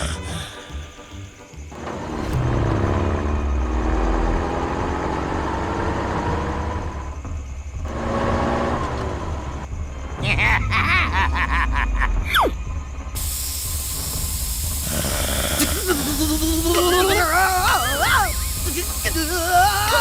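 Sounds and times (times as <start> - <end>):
vehicle engine revving: 1.4 - 10.4, 11.9 - 20.0.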